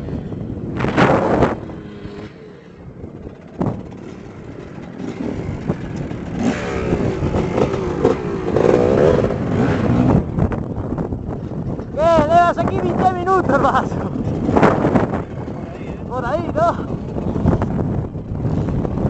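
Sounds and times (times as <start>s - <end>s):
motorcycle engine revving: 0.0s - 12.0s, 12.6s - 19.0s.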